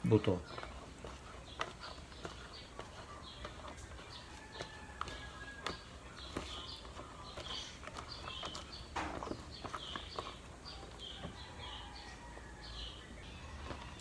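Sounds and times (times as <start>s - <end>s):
wet squishing of berries: 0.0s - 14.0s.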